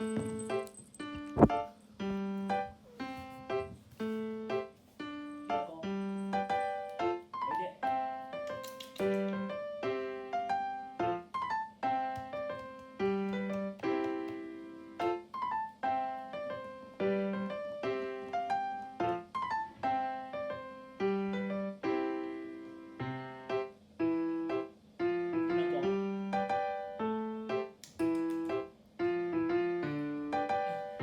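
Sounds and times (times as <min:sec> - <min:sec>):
piano melody: 0:00.0 - 0:31.0.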